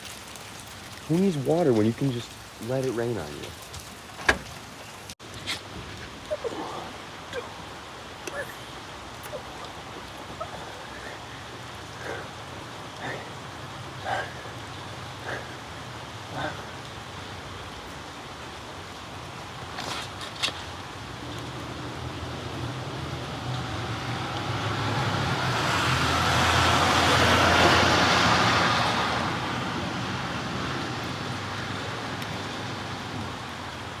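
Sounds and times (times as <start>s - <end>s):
vehicle passing on wet road: 0.0s - 34.0s.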